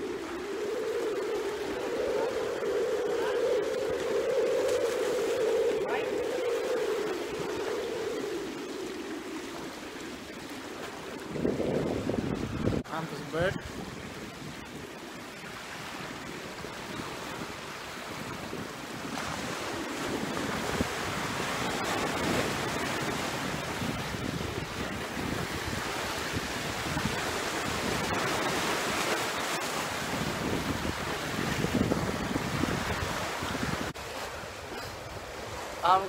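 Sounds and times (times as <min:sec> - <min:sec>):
wind buffeting microphone: 0:00.0 - 0:36.0
waves splashing against seawall: 0:07.1 - 0:36.0.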